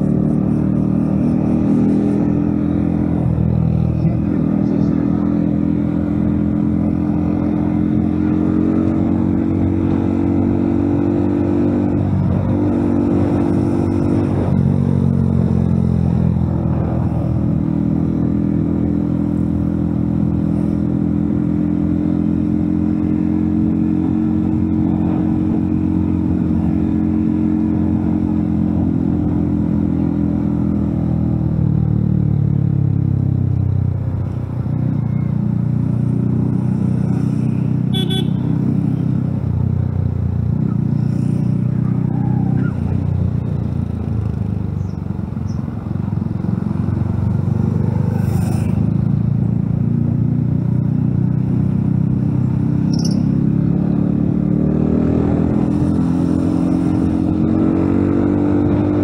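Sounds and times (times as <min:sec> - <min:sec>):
motorcycle engine humming: 0:00.0 - 0:59.0
road noise: 0:00.0 - 0:59.0.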